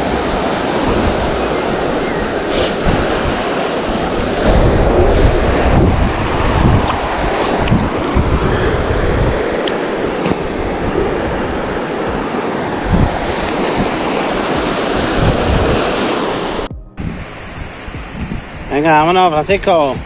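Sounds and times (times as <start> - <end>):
surf breaking on beach: 0.0 - 19.0
wind buffeting microphone: 0.0 - 20.0.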